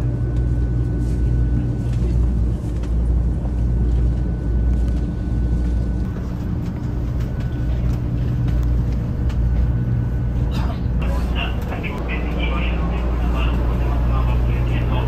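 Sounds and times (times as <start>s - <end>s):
train interior rumble and hum: 0.0s - 15.0s.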